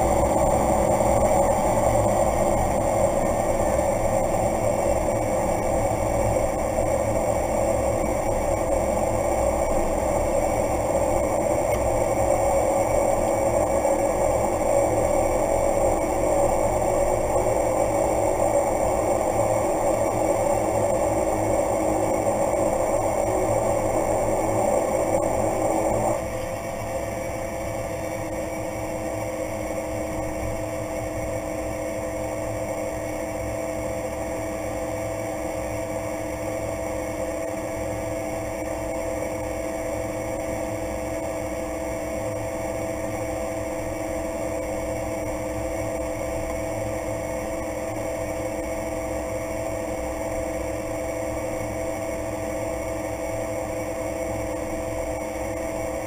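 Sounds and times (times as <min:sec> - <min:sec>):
turboprop engine drone and whine: 0:00.0 - 0:56.0.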